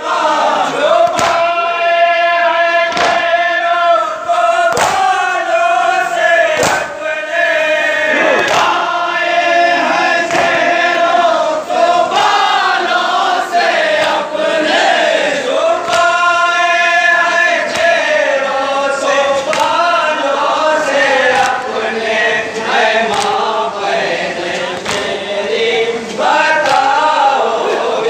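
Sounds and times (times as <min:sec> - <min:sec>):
men chanting in unison: 0:00.0 - 0:28.0.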